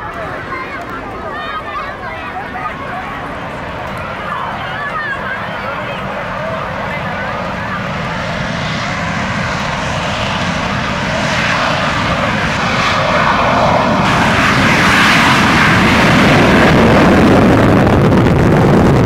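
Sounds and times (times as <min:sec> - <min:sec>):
jet engine roaring: 0:00.0 - 0:19.0.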